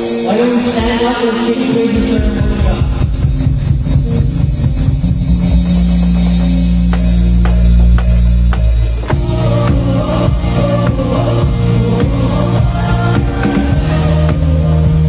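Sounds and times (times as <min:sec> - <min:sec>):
live band music: 0:00.0 - 0:15.0
electronic drum hits: 0:02.2 - 0:14.6.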